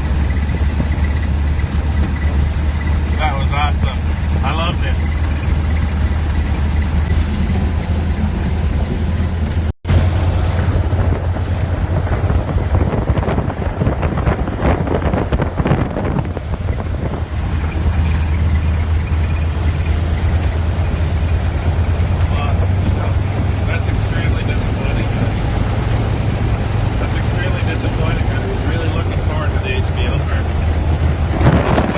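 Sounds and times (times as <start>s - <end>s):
propeller aircraft engine drone: 0.0s - 31.9s.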